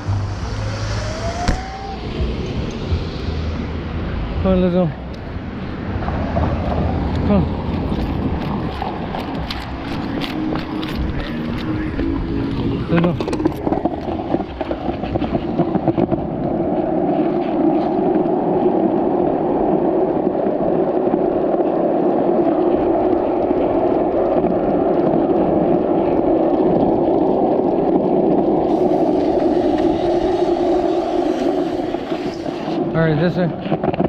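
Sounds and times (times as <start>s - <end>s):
vehicle in motion: 0.0s - 34.0s.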